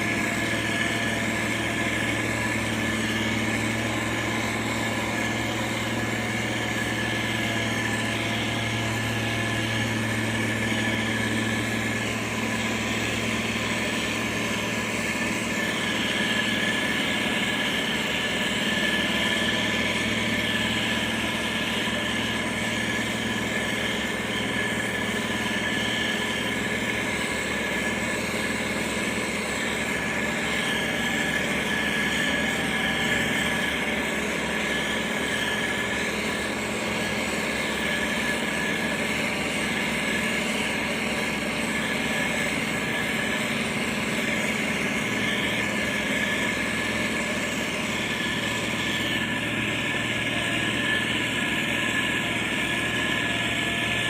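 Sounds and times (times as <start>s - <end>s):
heavy machinery diesel engine running: 0.0s - 54.0s.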